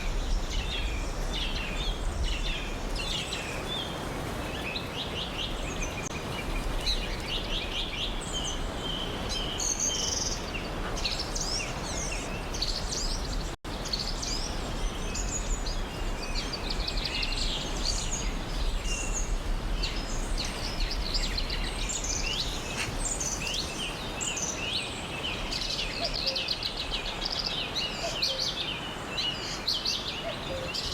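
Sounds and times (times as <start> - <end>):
birds chirping and trilling: 0.0 - 30.9.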